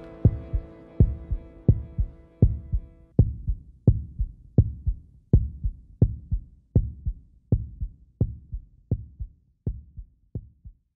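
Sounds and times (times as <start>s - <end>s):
low heartbeat thumping: 0.1s - 10.7s.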